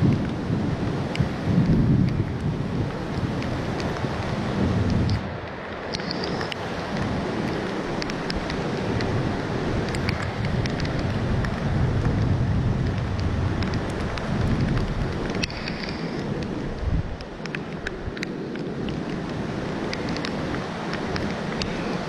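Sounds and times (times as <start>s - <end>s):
wind buffeting microphone: 0.0s - 22.0s
small ticks: 1.1s - 5.2s, 5.9s - 9.2s, 9.8s - 16.6s, 17.2s - 22.0s.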